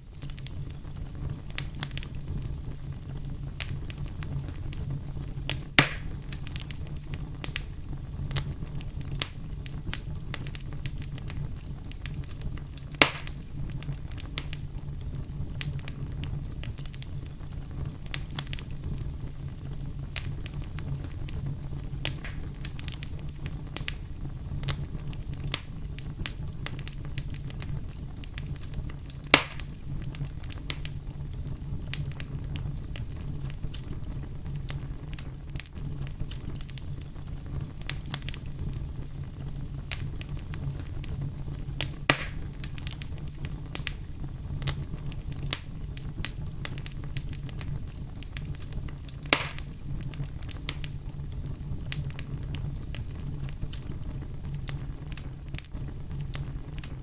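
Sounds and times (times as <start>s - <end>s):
campfire crackling: 0.0s - 57.0s
loud sharp fire pops: 0.2s - 57.0s.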